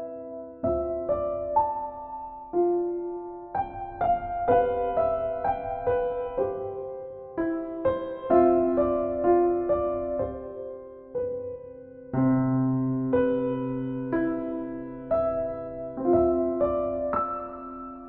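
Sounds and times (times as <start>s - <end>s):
slow solo piano music: 0.0s - 18.0s.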